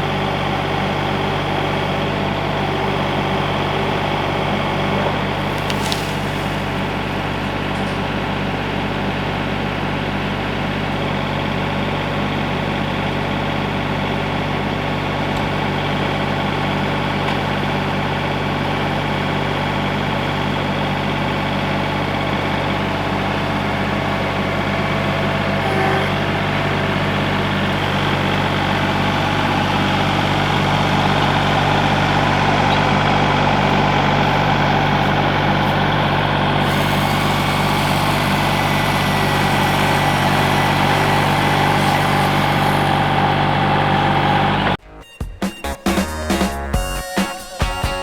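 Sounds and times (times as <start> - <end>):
engine idling with rattle: 0.0 - 44.8.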